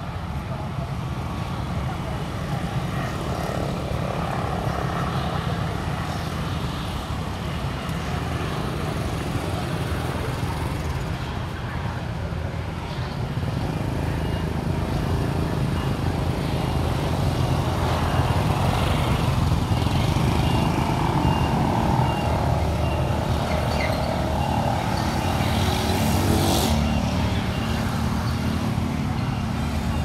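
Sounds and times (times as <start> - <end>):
motorbikes and traffic rumble: 0.0 - 30.0.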